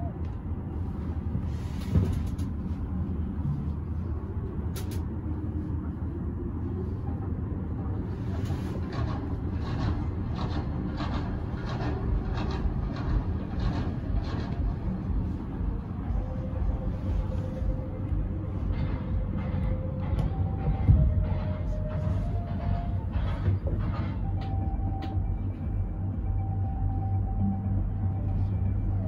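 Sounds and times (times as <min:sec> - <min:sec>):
cable car gondola rumble: 0:00.0 - 0:29.0.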